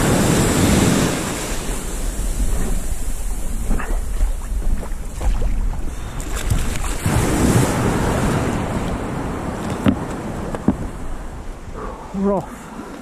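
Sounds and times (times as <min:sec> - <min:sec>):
sea water splashing around kayak: 0:00.0 - 0:11.9
wind rumbling on microphone: 0:00.0 - 0:13.0.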